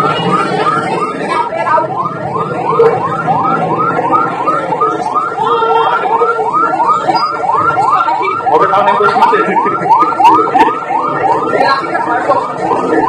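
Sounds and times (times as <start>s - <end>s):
ambulance siren yelping: 0.0s - 13.0s.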